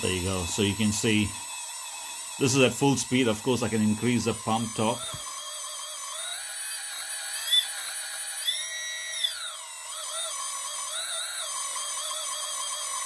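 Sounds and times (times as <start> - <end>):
hydraulic pump whining: 0.0 - 13.0.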